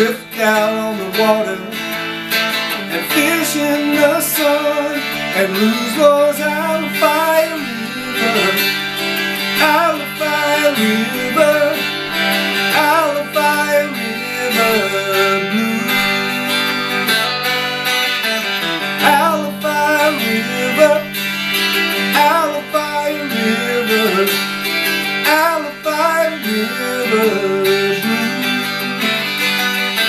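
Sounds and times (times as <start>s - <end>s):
electric guitar blues melody: 0.0s - 30.0s.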